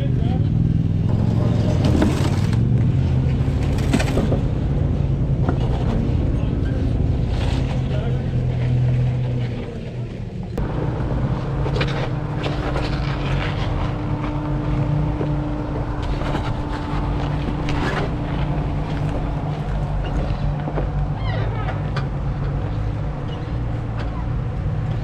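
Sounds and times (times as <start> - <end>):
engine running at low revs: 0.0 - 25.0.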